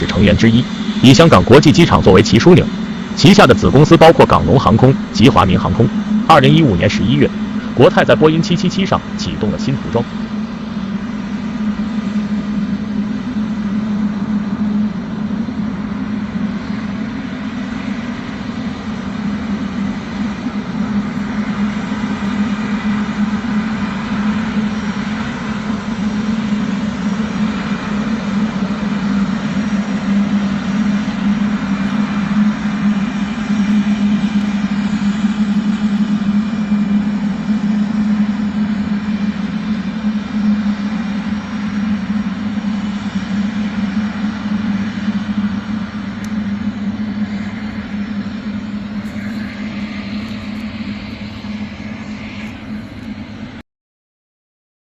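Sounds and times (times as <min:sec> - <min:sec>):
jet engines idling: 0:00.0 - 0:53.6.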